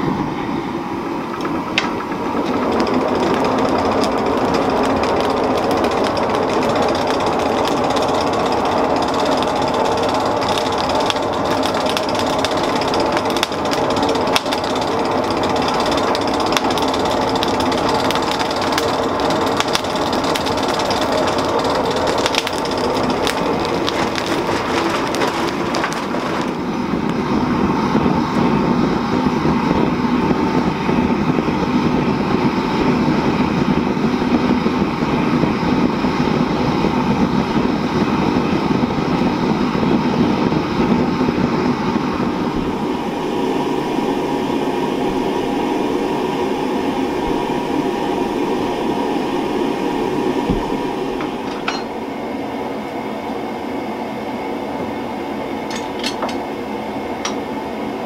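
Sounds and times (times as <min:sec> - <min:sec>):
forge fire rushing and crackling: 0:01.0 - 0:51.5.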